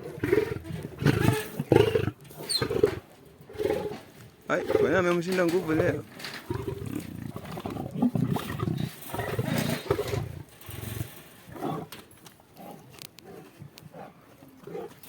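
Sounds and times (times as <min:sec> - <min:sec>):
lions growling: 0:00.0 - 0:11.9, 0:12.6 - 0:15.0.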